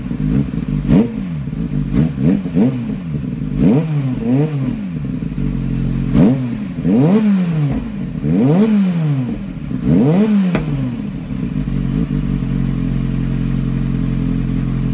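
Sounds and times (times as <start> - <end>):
motorcycle engine revving and idling: 0.0 - 14.9.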